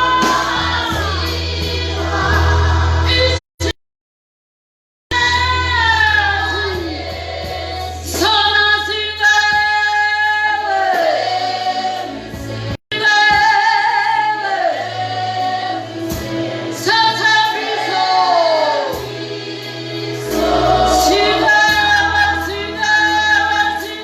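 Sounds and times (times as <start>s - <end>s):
gospel choir singing: 0.0s - 3.4s, 5.1s - 24.0s.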